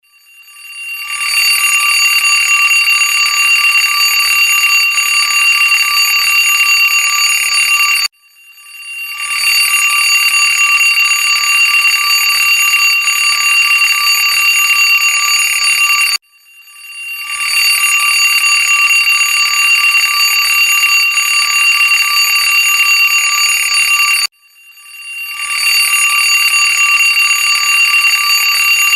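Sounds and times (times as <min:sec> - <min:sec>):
alarm clock ringing: 0:00.0 - 0:28.9.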